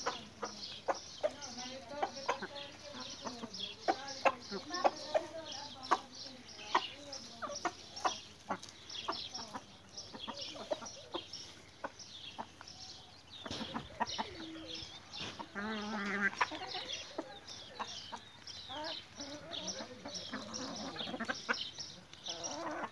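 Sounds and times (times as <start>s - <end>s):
chickens clucking and chirping: 0.0s - 22.9s.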